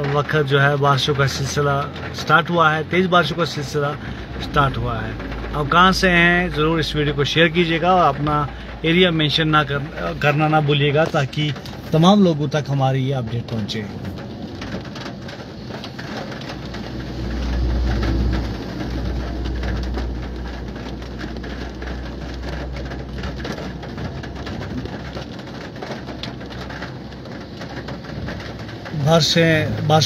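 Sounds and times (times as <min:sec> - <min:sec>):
heavy rain on car roof: 0:00.0 - 0:30.0
road and engine rumble: 0:00.0 - 0:30.0.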